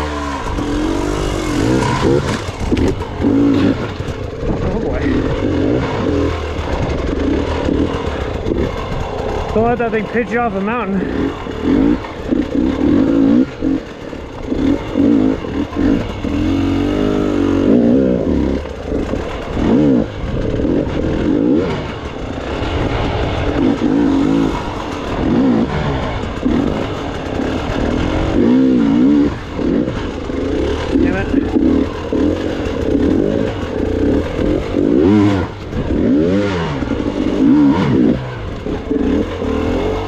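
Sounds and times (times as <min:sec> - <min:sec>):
motorcycle engine revving in bursts: 0:00.0 - 0:40.0.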